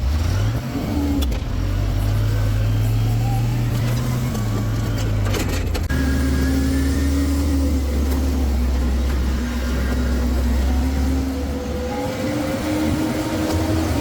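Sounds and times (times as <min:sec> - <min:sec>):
vehicle engine running under load: 0:00.0 - 0:14.0.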